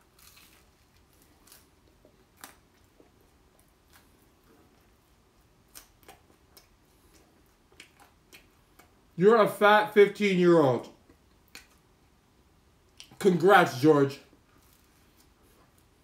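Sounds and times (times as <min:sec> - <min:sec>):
man chewing food: 0:00.0 - 0:09.2, 0:11.0 - 0:13.2, 0:14.3 - 0:16.0.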